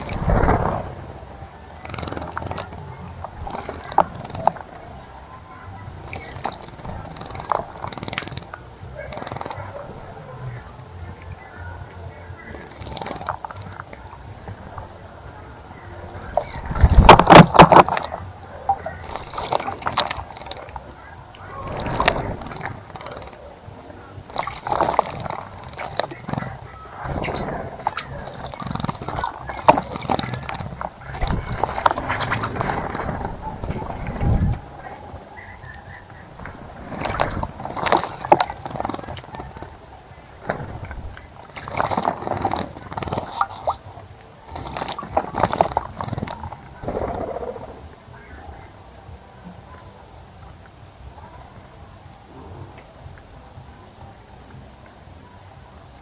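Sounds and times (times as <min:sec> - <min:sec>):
bird splashing water: 0:00.0 - 0:49.1.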